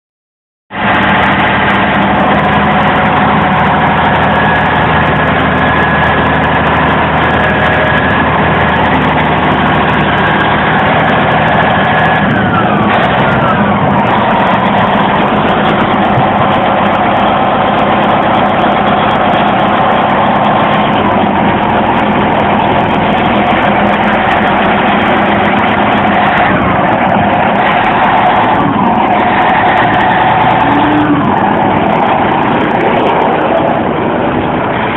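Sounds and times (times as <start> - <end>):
diesel engine running: 0.7 - 34.9
high tone gliding downward: 0.8 - 34.9.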